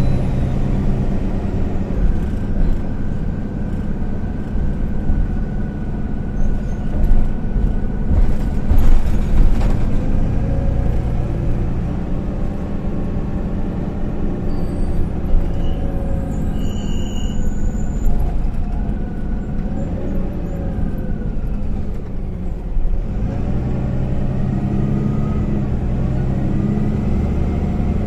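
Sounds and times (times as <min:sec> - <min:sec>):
bus body rattling: 0:00.0 - 0:23.0
bus diesel engine running: 0:00.0 - 0:28.0.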